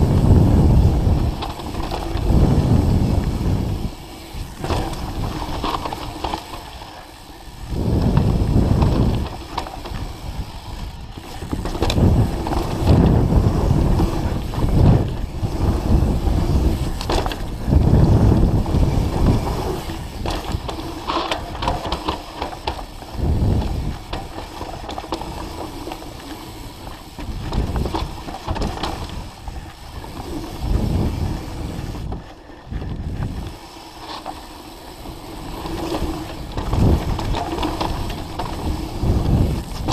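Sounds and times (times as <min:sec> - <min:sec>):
bike rattling: 0:00.0 - 0:39.9
bike tyres rolling and skidding on dirt: 0:00.0 - 0:39.9.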